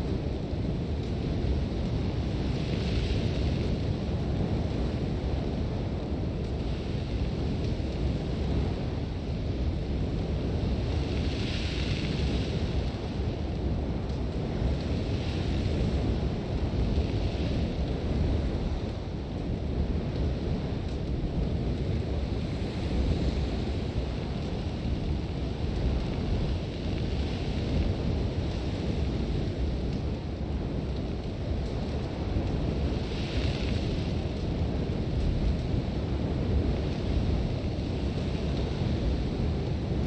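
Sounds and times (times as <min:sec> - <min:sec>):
strong wind blowing: 0:00.0 - 0:40.0
windblown sand hissing: 0:00.0 - 0:40.0.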